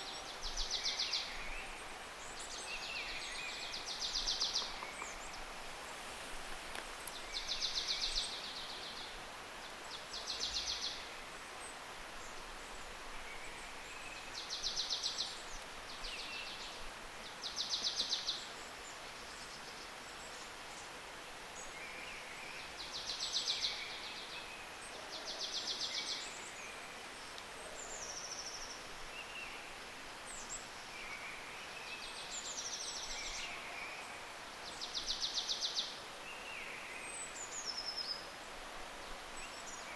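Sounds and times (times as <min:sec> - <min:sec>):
outdoor background noise: 0:00.0 - 0:39.9.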